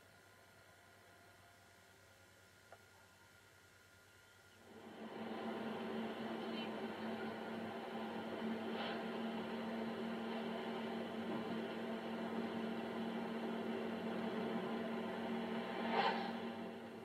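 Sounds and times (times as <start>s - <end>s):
electrical hum: 0.0s - 17.0s
low hiss: 0.0s - 17.0s.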